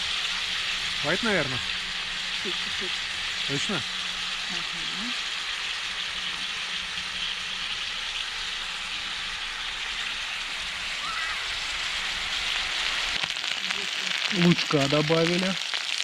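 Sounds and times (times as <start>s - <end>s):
potatoes sizzling in skillet: 0.0s - 16.0s.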